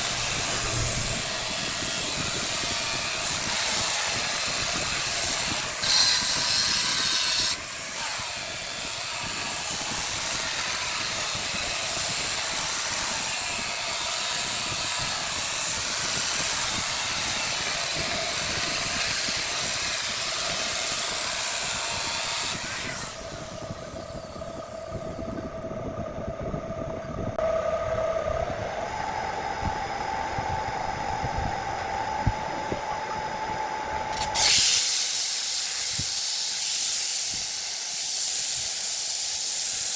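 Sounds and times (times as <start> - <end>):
turning tool cutting wood: 0.0 - 25.4, 33.1 - 39.9
lathe motor hum: 0.0 - 34.7.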